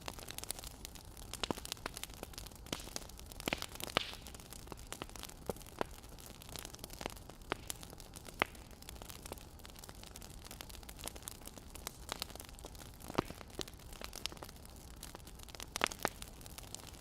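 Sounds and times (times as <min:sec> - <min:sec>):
firewood crackling and popping: 0:00.0 - 0:17.0
soft hiss of fire: 0:00.0 - 0:17.0.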